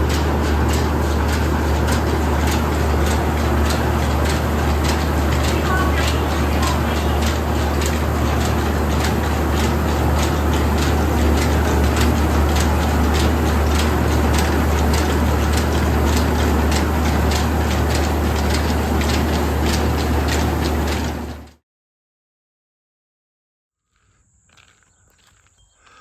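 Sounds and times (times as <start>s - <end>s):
fast ticking rattle: 0.0s - 21.4s
mill machinery low hum: 0.0s - 21.6s.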